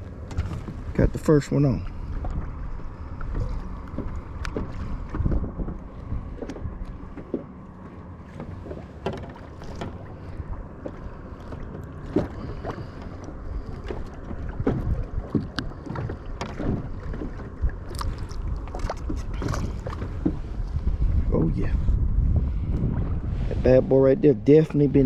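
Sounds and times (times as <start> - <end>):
water slapping against plastic boat: 0.0 - 21.6
wind buffeting microphone: 0.0 - 25.0.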